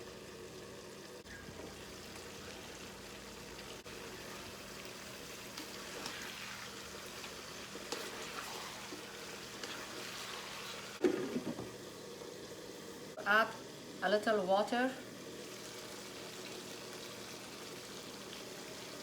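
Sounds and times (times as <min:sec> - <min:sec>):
food sizzling and bubbling in pot: 0:00.0 - 0:19.0.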